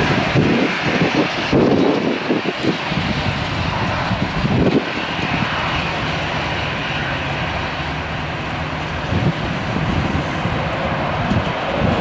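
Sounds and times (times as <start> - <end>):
jet engines running: 0.0 - 12.0
wind buffeting microphone: 0.0 - 12.0.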